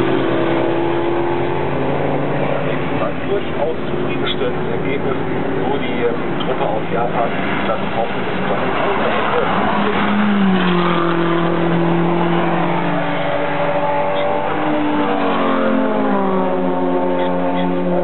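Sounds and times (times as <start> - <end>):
other race car engines: 0.0 - 18.0
race car engine passing: 0.0 - 18.0.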